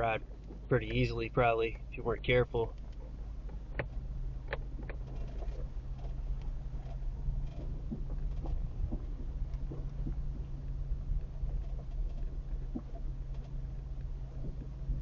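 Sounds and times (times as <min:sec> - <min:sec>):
vehicle driving on dirt road: 0:00.0 - 0:15.0.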